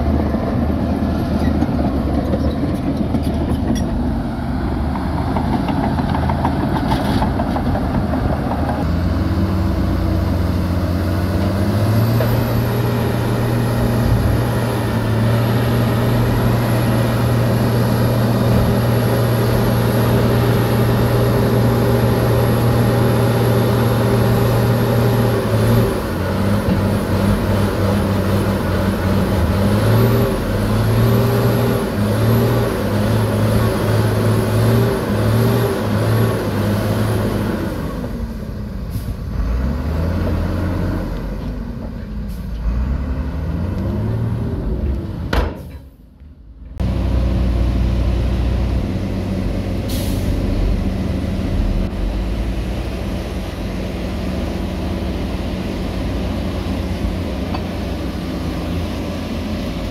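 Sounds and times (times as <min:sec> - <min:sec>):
diesel truck engine revving: 0:04.0 - 0:45.3, 0:46.6 - 0:59.9.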